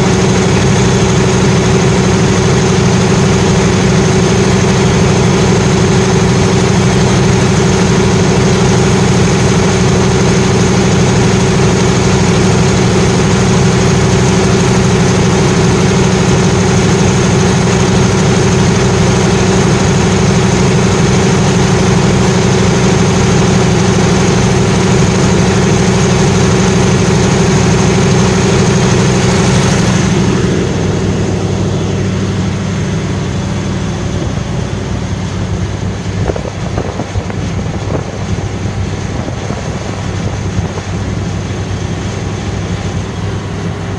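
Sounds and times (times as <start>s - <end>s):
diesel generator droning: 0.0s - 43.9s
high whine: 0.0s - 43.9s.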